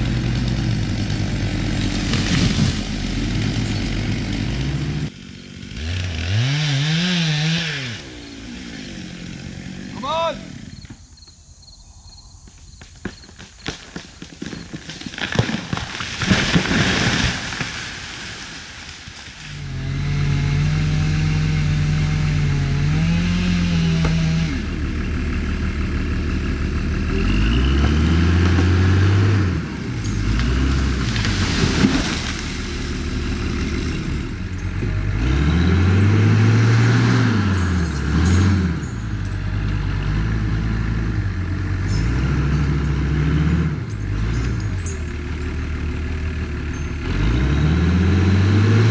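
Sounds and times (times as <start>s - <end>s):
heavy machine engine revving: 0.0s - 10.9s, 15.9s - 48.9s.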